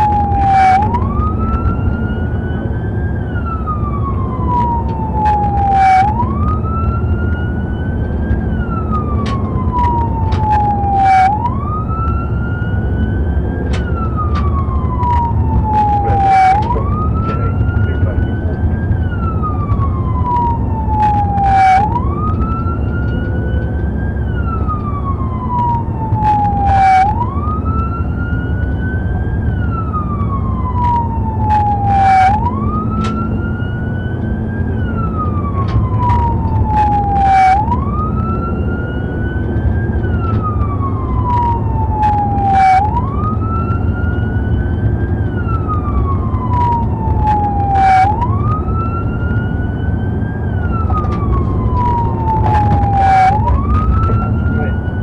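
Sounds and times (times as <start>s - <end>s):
car engine and road noise: 0.0s - 55.0s
police siren wailing: 0.0s - 55.0s.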